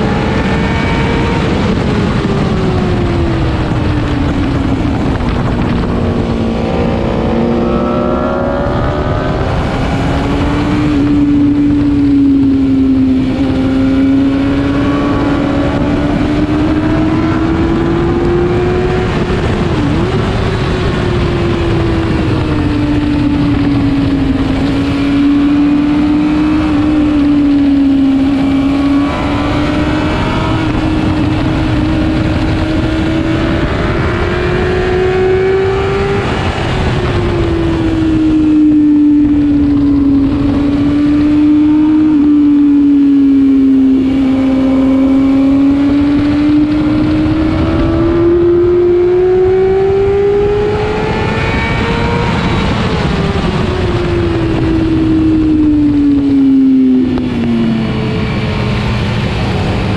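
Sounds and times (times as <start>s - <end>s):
motorcycle engine at high revs: 0.0s - 59.9s
wind and road rush: 0.0s - 59.9s.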